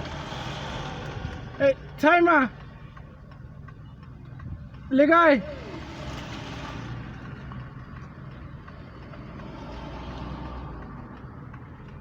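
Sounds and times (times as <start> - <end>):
engine rumble: 0.0 - 12.0
road noise: 0.0 - 12.0.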